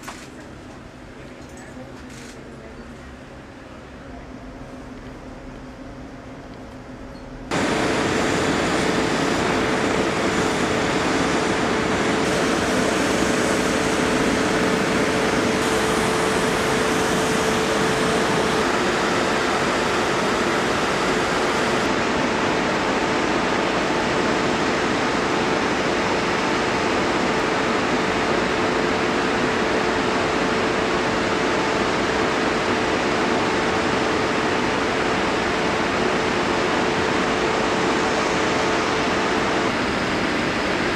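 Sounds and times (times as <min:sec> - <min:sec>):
jet turbine whine: 0:02.7 - 0:40.9.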